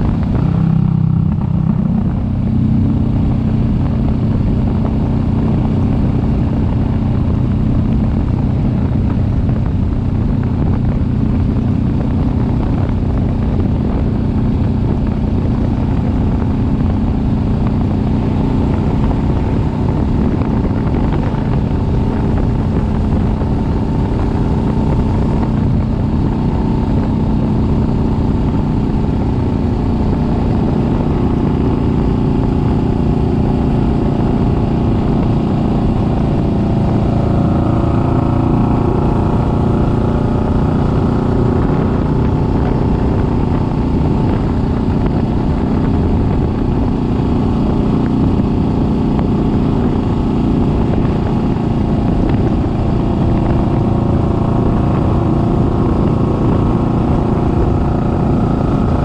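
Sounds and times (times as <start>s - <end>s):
continuous rushing noise: 0.0s - 59.0s
motorcycle engine running: 0.0s - 59.0s.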